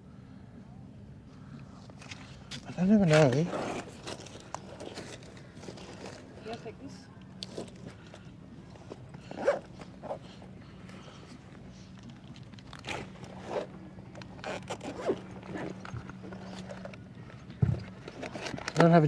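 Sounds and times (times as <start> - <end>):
faint steady hum: 0.0 - 19.0
rustling and scraping of gear: 1.3 - 19.0.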